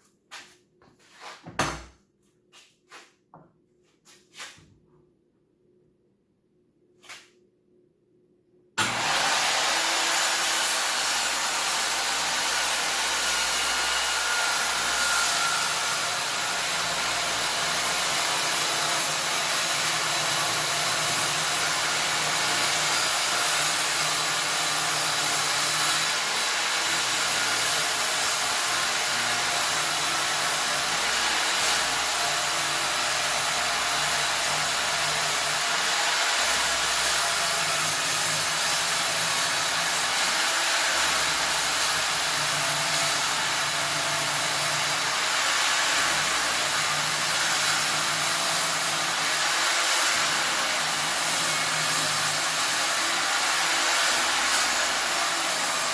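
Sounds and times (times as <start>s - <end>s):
circular saw cutting wood: 8.8s - 55.9s.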